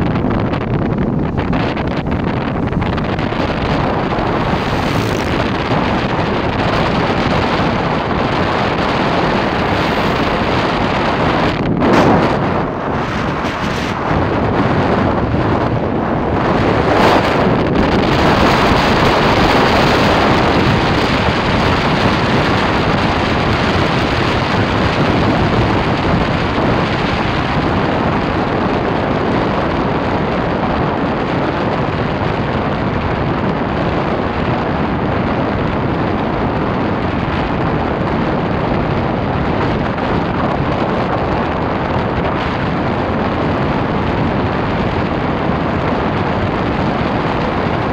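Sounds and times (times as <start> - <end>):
road and engine noise: 0.0 - 47.9
wind buffeting microphone: 0.0 - 47.9.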